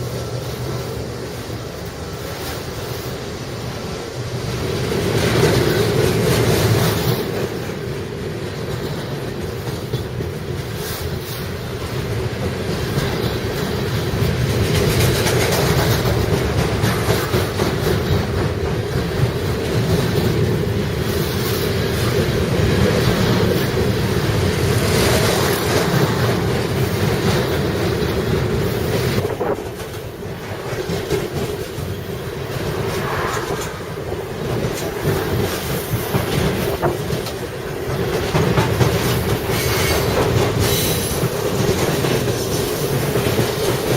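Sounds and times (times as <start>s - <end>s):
freight train wheels rumbling on rail: 0.0s - 43.9s.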